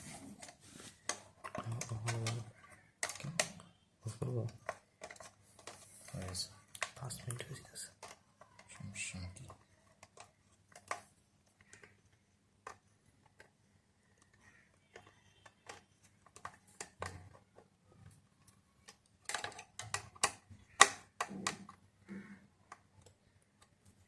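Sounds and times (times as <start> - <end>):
small clicks and light knocks: 0.4 - 3.7, 4.4 - 24.0.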